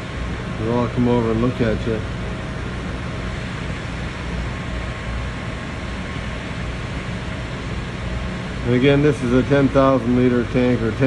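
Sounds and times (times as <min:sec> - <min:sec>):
water pumps humming: 0:00.0 - 0:11.0.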